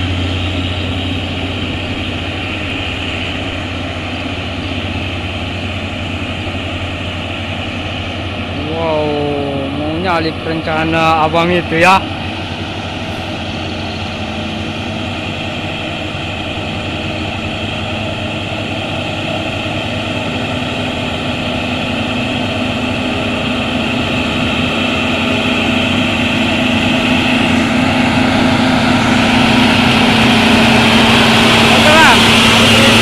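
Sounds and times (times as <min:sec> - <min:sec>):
truck engine climbing under load: 0:00.0 - 0:33.0.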